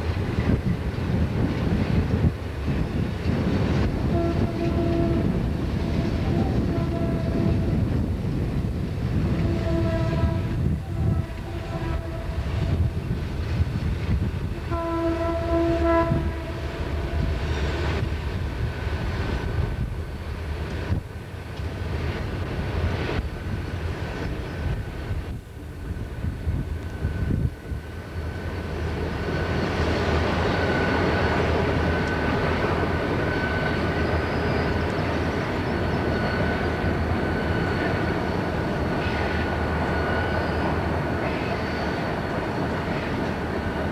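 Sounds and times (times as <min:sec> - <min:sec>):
train engine drone: 0:00.0 - 0:43.9
train wheels on rail: 0:00.0 - 0:43.9.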